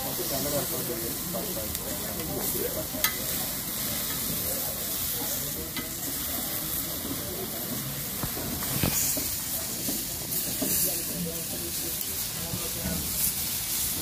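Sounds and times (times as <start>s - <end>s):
tomato slices sizzling in oil: 0.0s - 14.0s.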